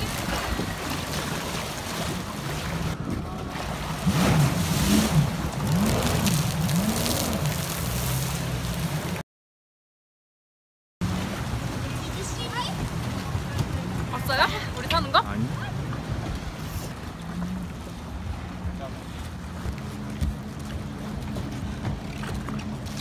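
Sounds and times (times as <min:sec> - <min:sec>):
water splashing: 0:00.0 - 0:09.2, 0:11.0 - 0:23.0
jet ski engine revving: 0:01.8 - 0:09.2, 0:11.0 - 0:23.0.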